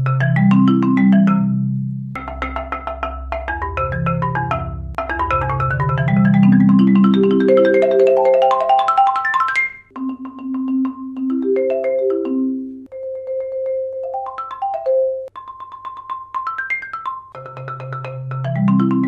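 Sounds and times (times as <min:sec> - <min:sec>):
marimba played with hard mallets: 0:00.0 - 0:19.0.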